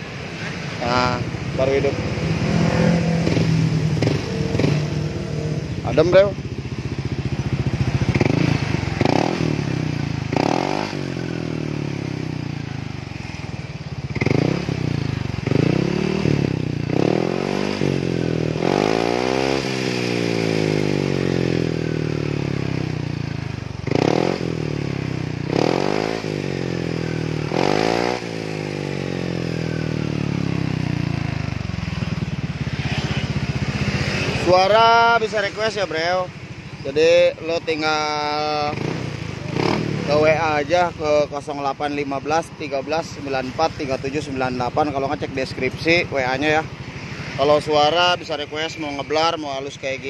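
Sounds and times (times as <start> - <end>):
scooter engine revving: 0.0 - 50.0.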